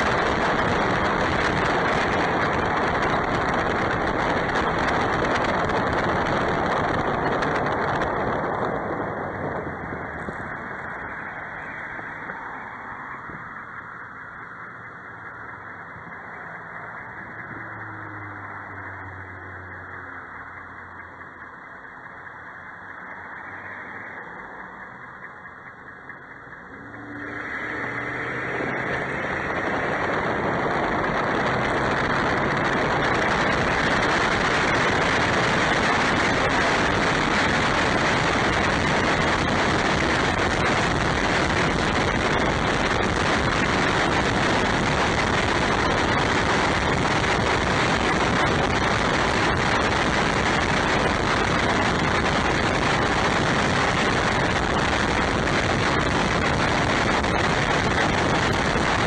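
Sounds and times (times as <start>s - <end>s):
truck road and tyre noise: 0.0s - 59.0s.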